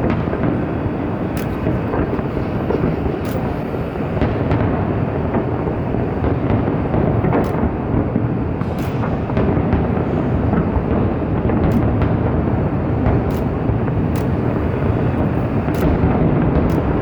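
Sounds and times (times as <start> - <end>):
fireworks booming: 0.0 - 17.0
sharp firework cracks: 0.0 - 17.0.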